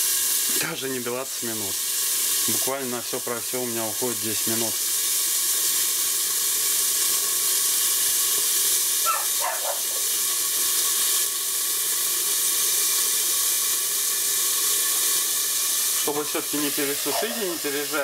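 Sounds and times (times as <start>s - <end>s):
steaks sizzling in a pan: 0.0s - 18.0s.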